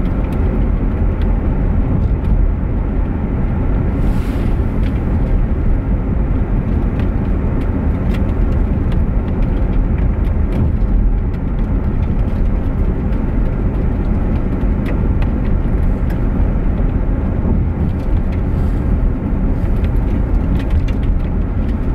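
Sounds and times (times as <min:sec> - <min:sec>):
car driving rumble inside cabin: 0:00.0 - 0:21.9.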